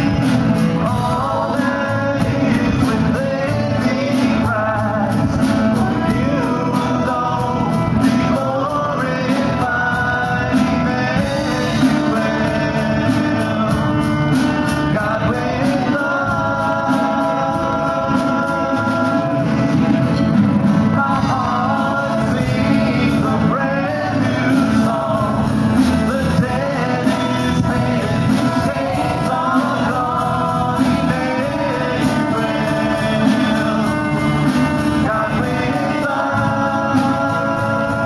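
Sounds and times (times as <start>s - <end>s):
group of people singing: 0.0s - 38.0s
live band playing: 0.0s - 38.0s.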